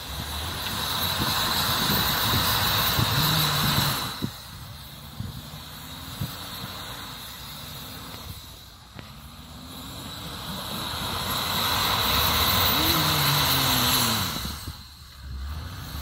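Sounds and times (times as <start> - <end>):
diesel engine revving: 0.0 - 16.0
snow hissing from spinning tyres: 0.0 - 16.0.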